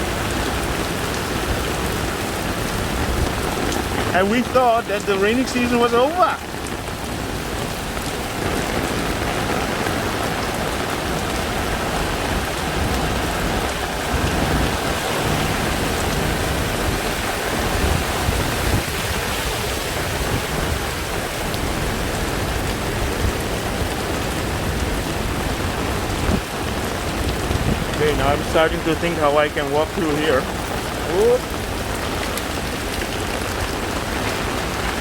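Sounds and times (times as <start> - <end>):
heavy rain on a street: 0.0 - 35.0.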